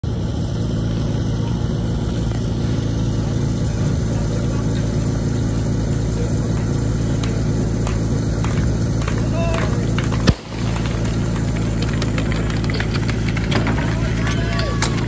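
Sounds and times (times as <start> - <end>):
pump engine idling: 0.0 - 15.0.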